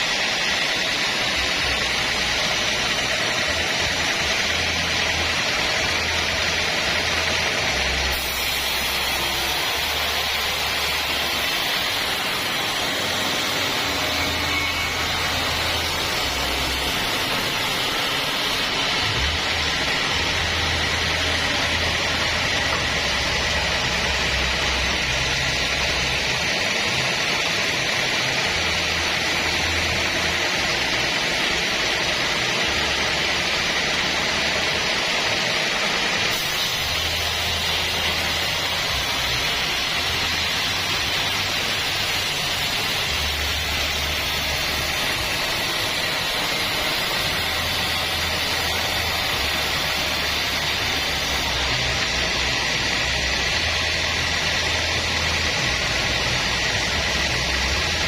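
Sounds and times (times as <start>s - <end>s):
band saw running: 0.0s - 58.0s.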